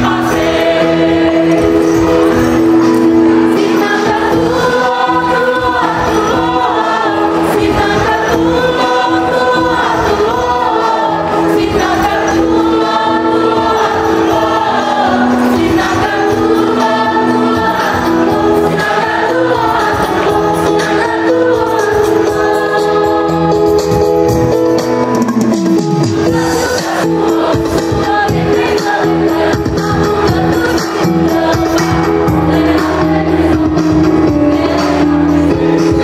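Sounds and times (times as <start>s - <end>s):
choir singing: 0.0s - 24.0s, 26.1s - 36.0s
instrumental accompaniment: 0.0s - 36.0s.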